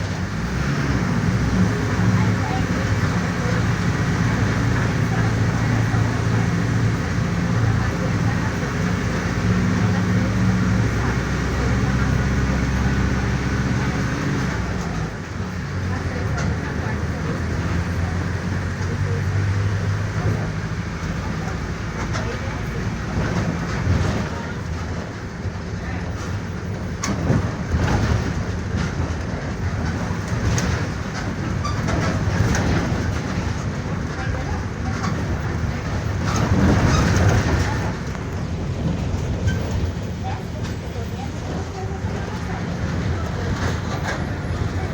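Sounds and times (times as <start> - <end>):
bus diesel engine running: 0.0 - 44.9
road noise: 0.0 - 44.9.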